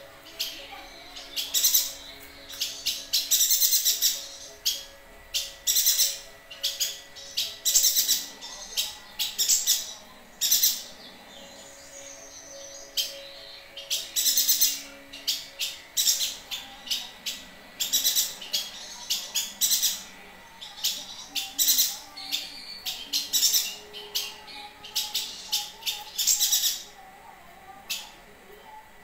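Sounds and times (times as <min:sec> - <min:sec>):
bird singing high chirps: 0:00.1 - 0:27.0.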